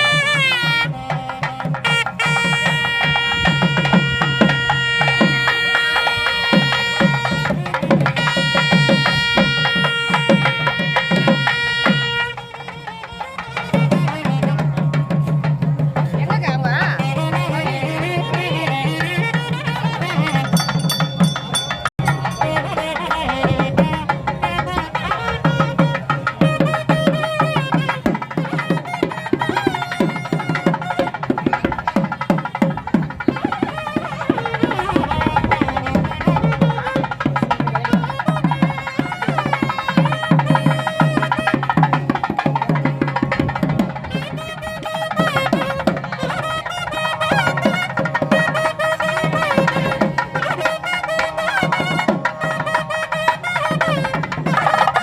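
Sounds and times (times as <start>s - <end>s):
double-reed wind instrument melody: 0.0s - 55.0s
rapid drumming: 0.0s - 55.0s.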